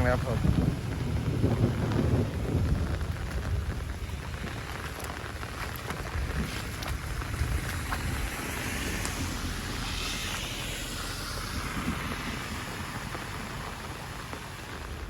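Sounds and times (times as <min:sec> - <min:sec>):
rain and wind in a storm: 0:00.0 - 0:15.0.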